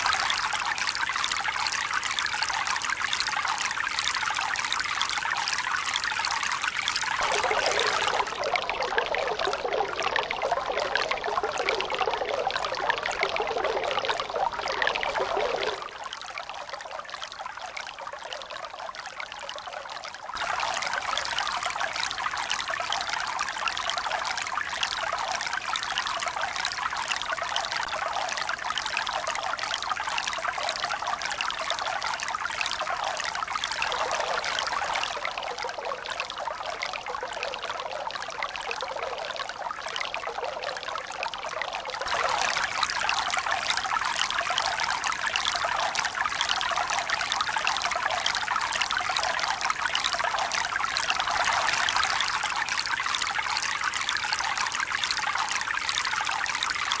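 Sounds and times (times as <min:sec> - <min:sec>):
stream trickling and splashing: 0:00.0 - 0:57.0.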